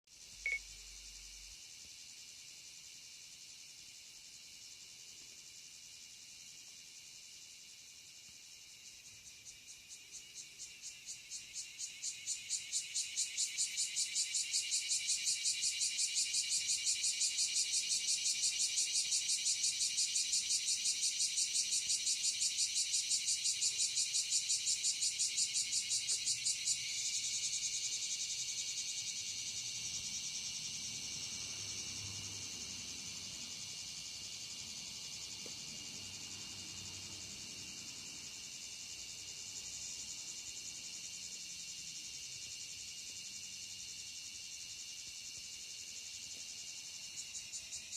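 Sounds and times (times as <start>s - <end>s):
pulsed high insect chirp: 0.1s - 47.9s
steady high insect trill: 0.1s - 47.9s.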